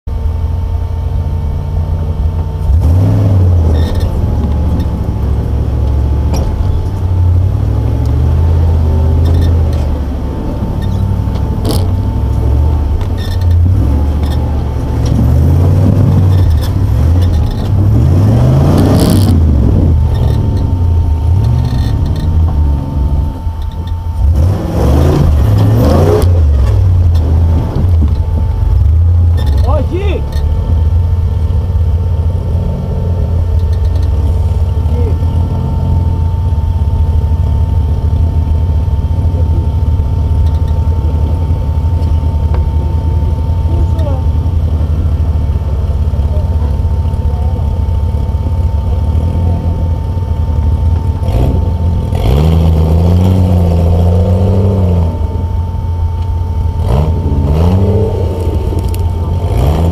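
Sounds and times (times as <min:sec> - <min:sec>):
engine revving under load: 0:00.6 - 0:59.9.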